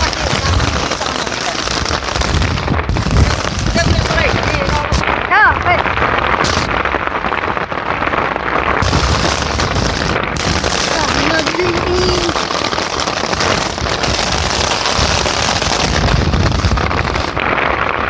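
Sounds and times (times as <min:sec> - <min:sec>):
low rumbling on microphone: 0:00.0 - 0:07.2, 0:08.7 - 0:18.0
heavy rain pouring: 0:00.0 - 0:18.0.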